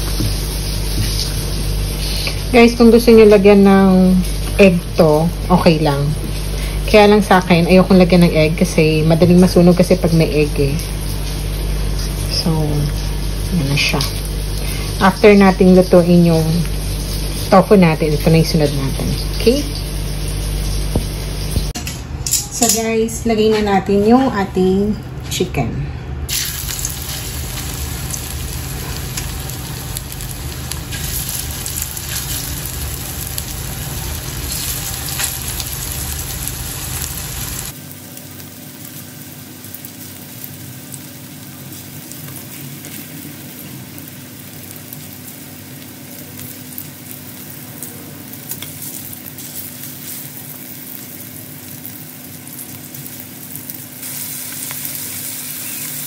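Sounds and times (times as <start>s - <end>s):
chicken sizzling in hot oil: 0.0s - 4.6s, 9.8s - 21.8s, 26.3s - 56.0s.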